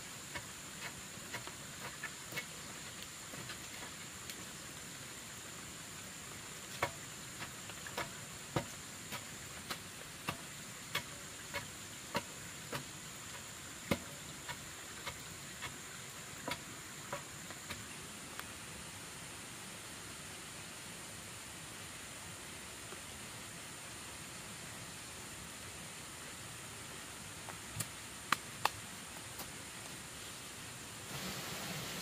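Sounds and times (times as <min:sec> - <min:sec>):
steady high hiss: 0:00.0 - 0:32.0.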